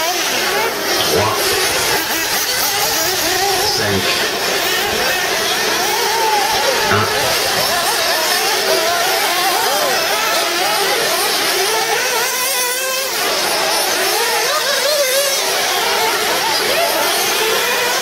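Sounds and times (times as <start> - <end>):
rc car engines racing: 0.1 - 18.0.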